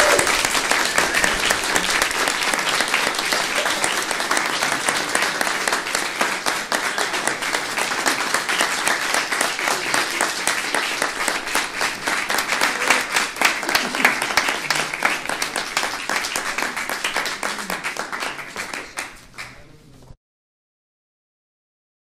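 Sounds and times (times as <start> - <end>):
audience applauding: 0.0 - 19.8.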